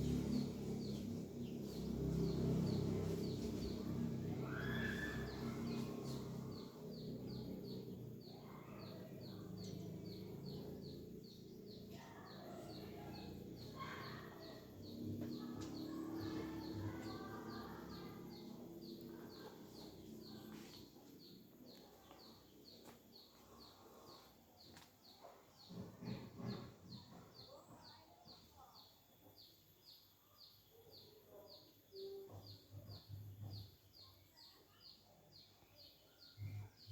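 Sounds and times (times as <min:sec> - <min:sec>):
bird chirping: 0:00.0 - 0:36.9
low outdoor background hum: 0:00.0 - 0:36.9.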